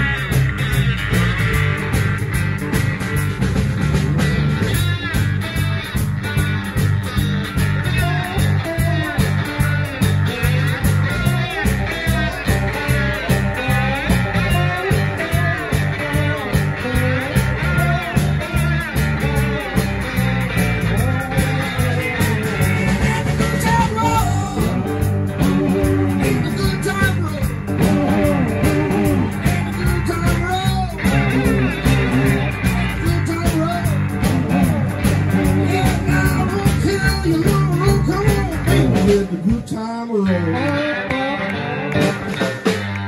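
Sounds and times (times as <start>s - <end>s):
drums steady beat: 0.0s - 39.8s, 42.0s - 43.0s
bass guitar: 0.0s - 43.0s
electric guitar lead lines: 0.0s - 43.0s.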